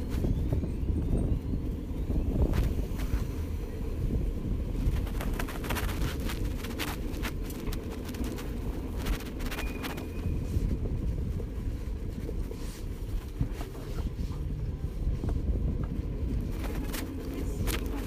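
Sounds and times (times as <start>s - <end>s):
tyre road and wind rumble: 0.0s - 18.0s.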